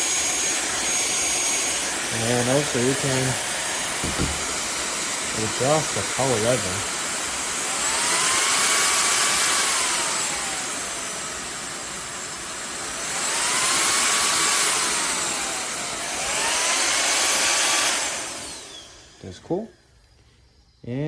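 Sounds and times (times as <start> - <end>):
vacuum motor whining: 0.0 - 20.3.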